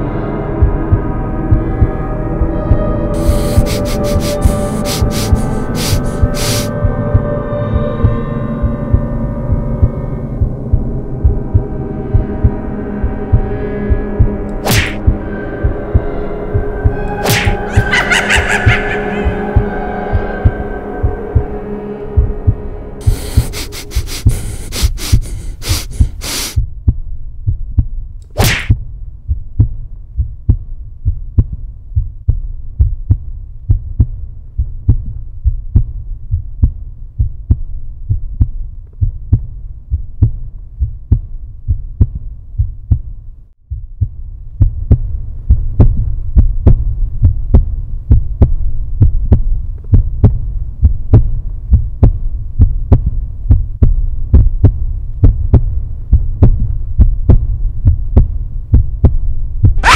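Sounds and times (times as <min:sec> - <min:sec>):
low droning hum: 0:00.0 - 0:25.6, 0:28.8 - 0:59.8
heartbeat pulse: 0:00.5 - 0:59.9.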